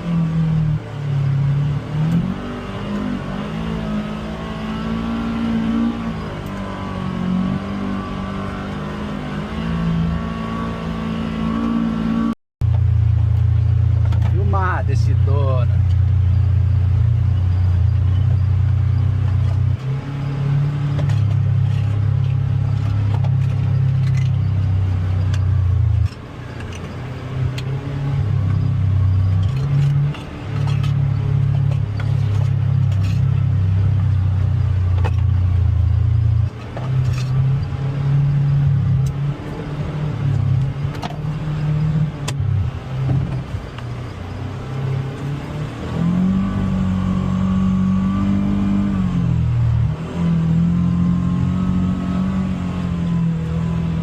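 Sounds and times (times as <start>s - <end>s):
utility vehicle engine under load: 0.0s - 54.0s.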